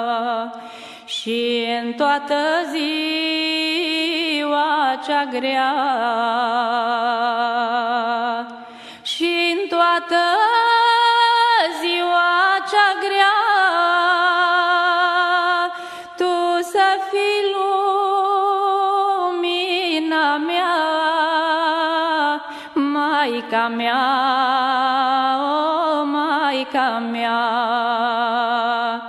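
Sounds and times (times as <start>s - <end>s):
slow devotional song: 0.0s - 29.0s.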